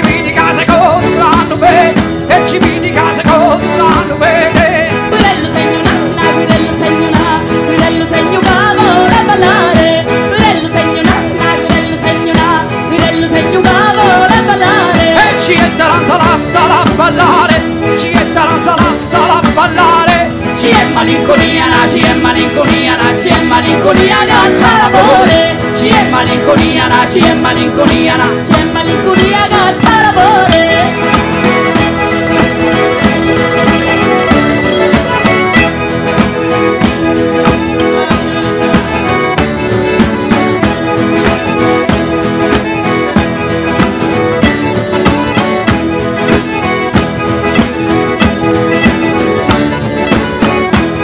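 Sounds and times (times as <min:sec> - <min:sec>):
lead melody with vibrato: 0:00.0 - 0:51.0
live folk dance music: 0:00.0 - 0:51.0
percussion steady beat: 0:00.0 - 0:51.0.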